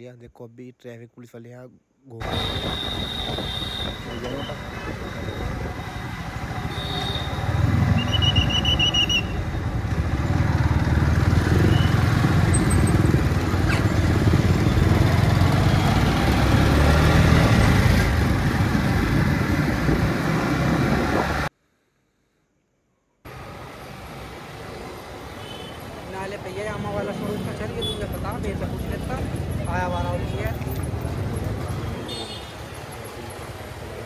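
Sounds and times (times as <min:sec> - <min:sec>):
road rumble: 0:02.2 - 0:21.5, 0:23.3 - 0:34.0.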